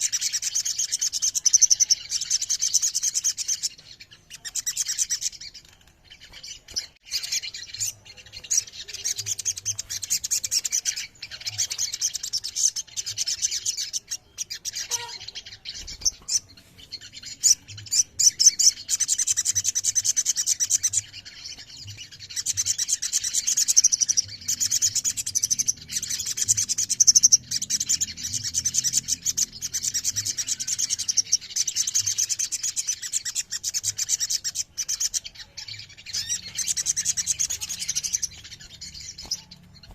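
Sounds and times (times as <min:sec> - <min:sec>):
bird singing high chattering trills: 0:00.0 - 0:39.9.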